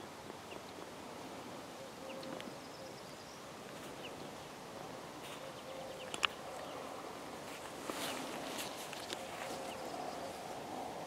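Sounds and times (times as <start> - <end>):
meadow ambience: 0.0 - 11.0.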